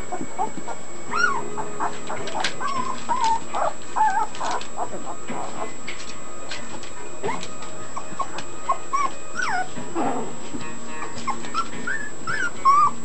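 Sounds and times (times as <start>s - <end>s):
puppies whimpering and squealing: 0.0s - 6.1s, 6.7s - 13.0s.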